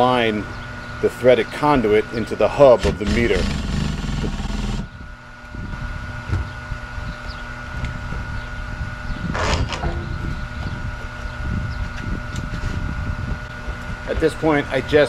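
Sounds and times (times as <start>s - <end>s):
faint steady hums: 0.0s - 15.0s.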